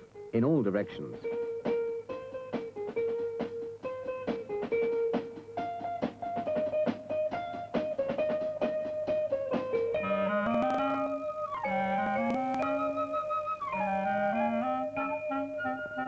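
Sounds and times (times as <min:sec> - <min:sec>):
light percussion beat: 0:00.0 - 0:13.8
plucked guitar notes: 0:00.0 - 0:16.0.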